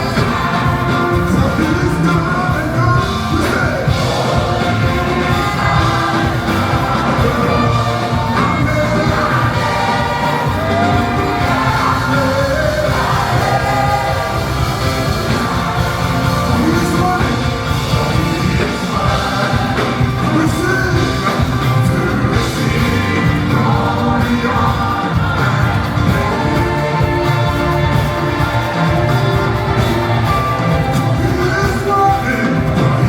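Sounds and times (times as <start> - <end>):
band playing worship music: 0.0 - 33.0.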